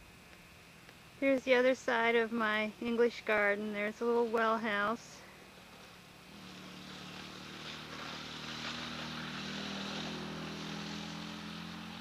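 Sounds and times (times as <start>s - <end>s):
distant engine droning: 0.0s - 12.0s.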